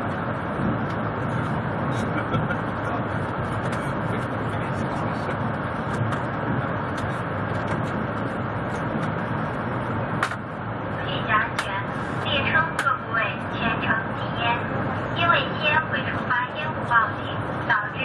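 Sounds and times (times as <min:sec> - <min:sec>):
train rumbling at speed: 0:00.0 - 0:18.0.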